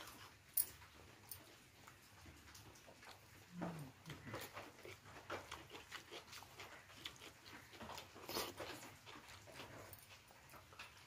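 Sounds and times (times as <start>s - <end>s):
person chewing with mouth smacks: 0.0s - 11.0s.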